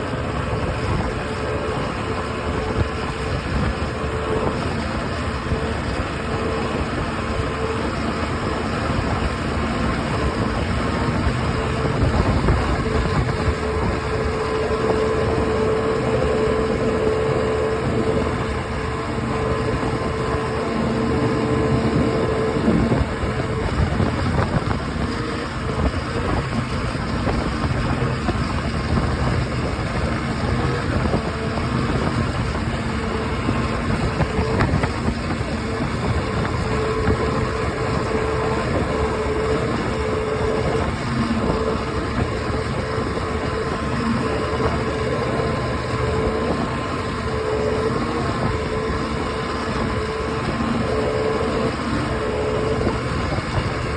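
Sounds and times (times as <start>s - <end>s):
grinding noise: 0.0s - 53.9s
outboard motor running: 0.0s - 53.9s.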